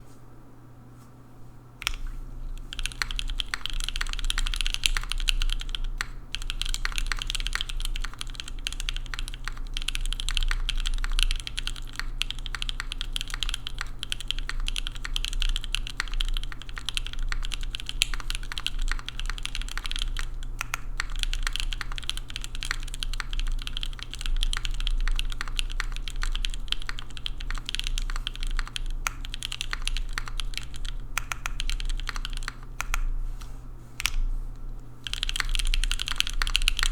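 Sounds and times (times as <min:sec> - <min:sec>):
fast typing on mechanical keyboard: 0:02.6 - 0:33.1, 0:35.0 - 0:36.9.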